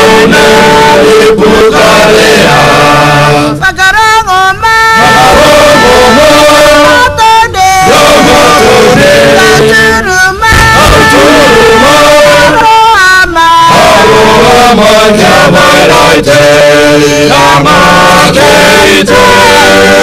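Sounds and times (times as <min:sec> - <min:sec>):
man singing loudly: 0:00.0 - 0:20.0.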